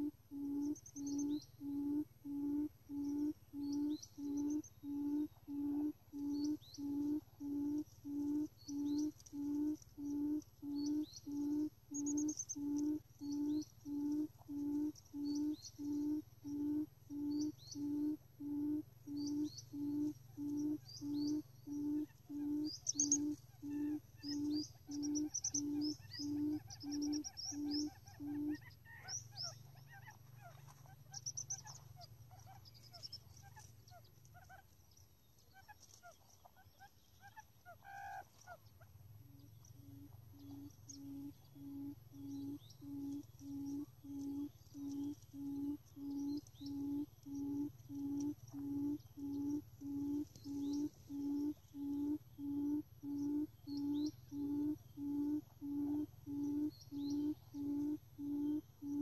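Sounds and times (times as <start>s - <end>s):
quail hooting: 0.0s - 34.8s, 35.6s - 59.0s
small birds chirping: 0.0s - 59.0s.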